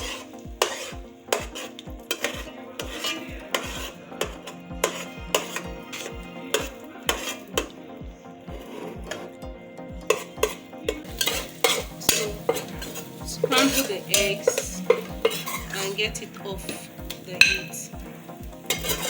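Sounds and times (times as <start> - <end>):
eggs sizzling in hot oil: 0.0 - 19.0
utensil scraping a pot: 0.0 - 19.0.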